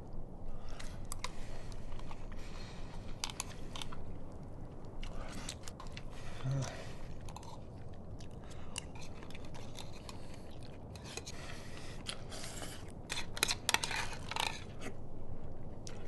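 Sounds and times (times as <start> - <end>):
chewing: 0.5 - 16.0.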